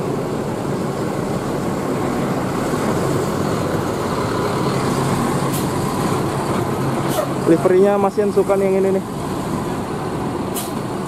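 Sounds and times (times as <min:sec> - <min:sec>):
bus diesel engine driving past: 0:00.0 - 0:11.0.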